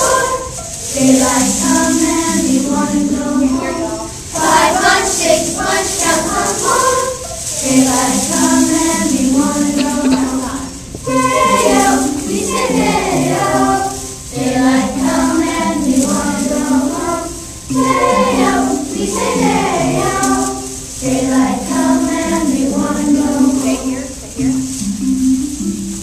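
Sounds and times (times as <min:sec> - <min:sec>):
children singing: 0:00.0 - 0:24.8.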